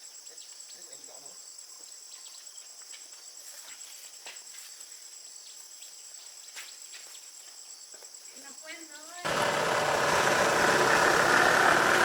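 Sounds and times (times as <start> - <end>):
pulsing insect chorus: 0.0 - 12.0.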